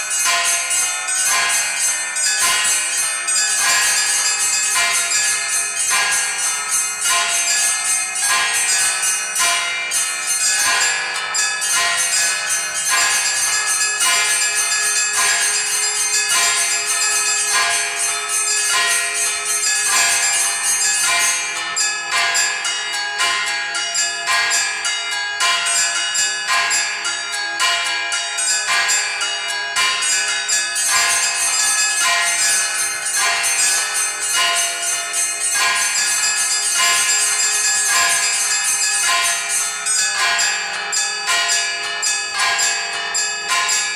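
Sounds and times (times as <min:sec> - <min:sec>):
church bells ringing fast peal: 0:00.0 - 0:43.9.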